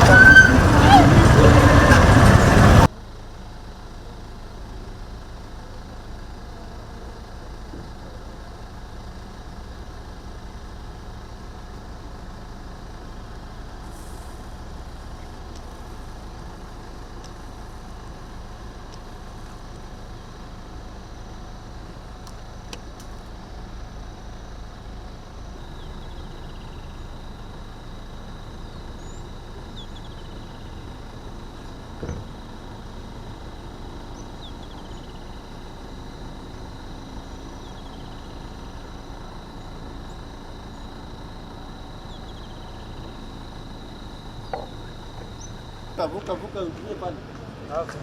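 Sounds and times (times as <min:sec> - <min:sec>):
engine low drone: 0:00.0 - 0:48.0.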